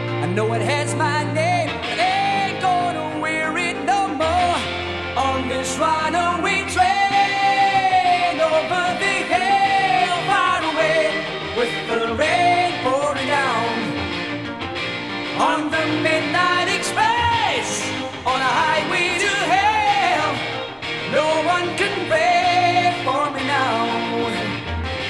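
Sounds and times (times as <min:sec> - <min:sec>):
man singing rock vocals: 0:00.0 - 0:14.4, 0:15.2 - 0:24.8
rock band backing: 0:00.0 - 0:25.0.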